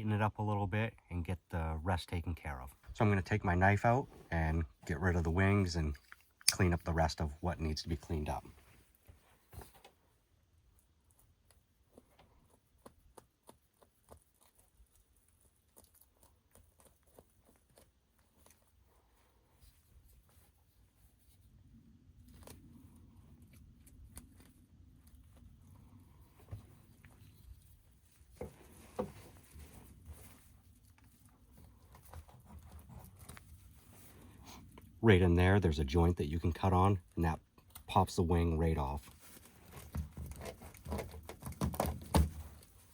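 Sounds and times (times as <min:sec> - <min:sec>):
soft ticks and rustles: 0:00.5 - 0:42.9.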